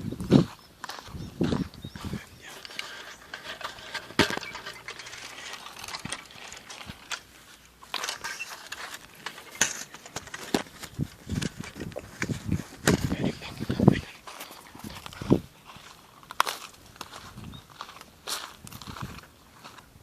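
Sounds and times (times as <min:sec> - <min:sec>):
footsteps on dry ground: 0:00.0 - 0:20.0.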